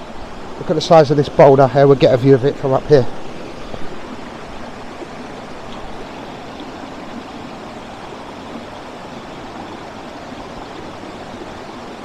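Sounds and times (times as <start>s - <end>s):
stream rushing over rocks: 0.0s - 12.0s
water trickling: 0.0s - 12.0s.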